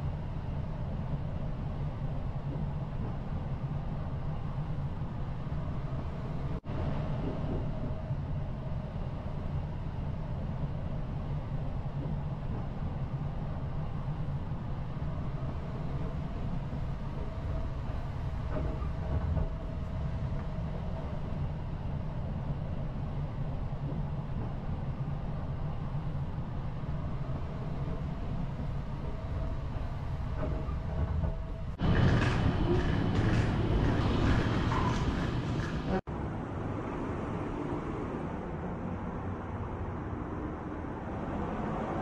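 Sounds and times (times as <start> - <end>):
train carriage rumble: 0.0 - 42.0.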